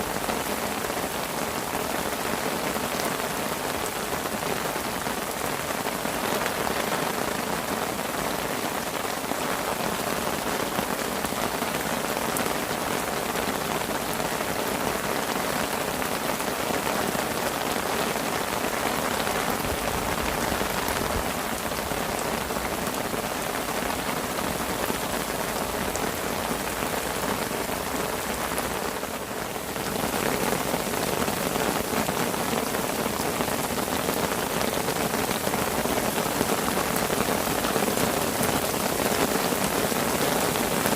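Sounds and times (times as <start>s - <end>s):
rain pattering on a parasol: 0.0s - 40.9s.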